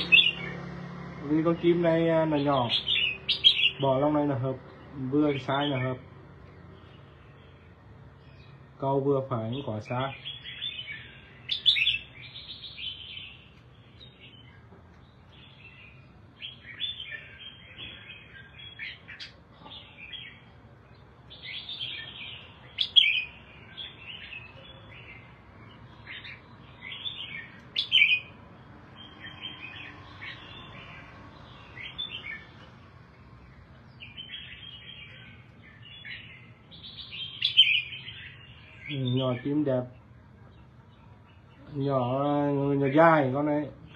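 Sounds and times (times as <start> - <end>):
bird singing chirpy phrases: 0.0 - 43.9.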